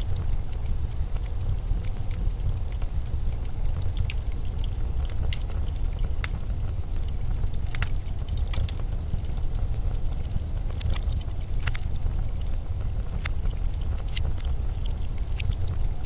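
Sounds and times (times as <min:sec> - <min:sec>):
sharp crackles and ticks: 0:00.0 - 0:16.0.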